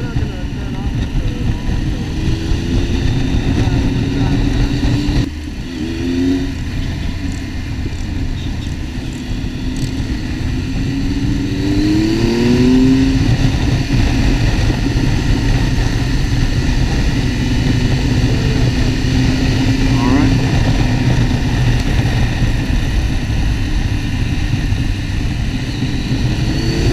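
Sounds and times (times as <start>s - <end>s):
motorcycle engine accelerating: 0.0s - 26.9s
wind and road noise: 0.0s - 26.9s.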